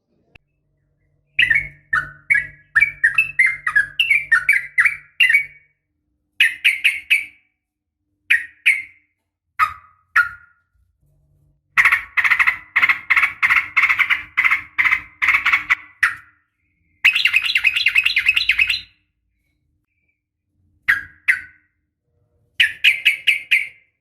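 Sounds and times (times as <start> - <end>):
bird chirping: 0.3 - 7.6, 8.2 - 10.7, 11.8 - 21.9, 22.6 - 24.0.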